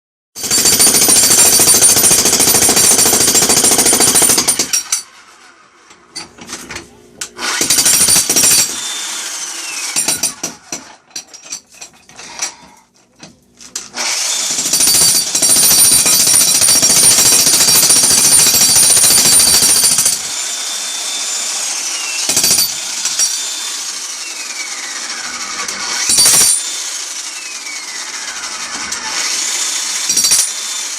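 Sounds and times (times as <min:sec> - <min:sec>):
jackhammer hammering: 0:00.4 - 0:05.1, 0:07.3 - 0:11.6, 0:12.2 - 0:30.9.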